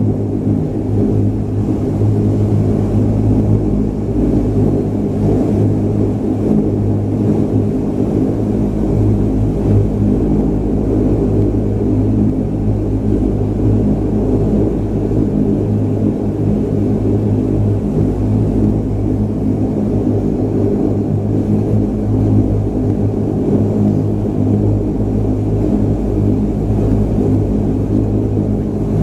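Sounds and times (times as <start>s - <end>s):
turboprop cabin drone: 0.0s - 29.0s.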